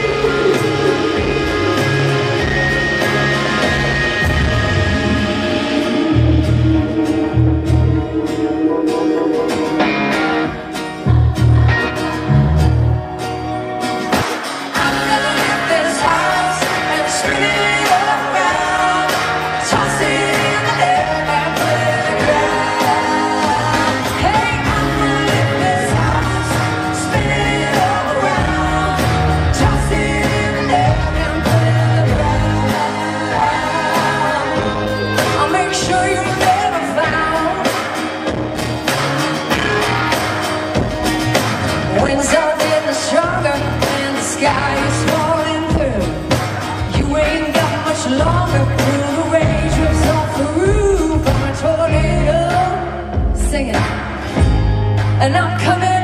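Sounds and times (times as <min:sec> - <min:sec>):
lead and harmony vocals: 0:00.0 - 0:40.7, 0:41.4 - 0:56.0
live country band: 0:00.0 - 0:56.0.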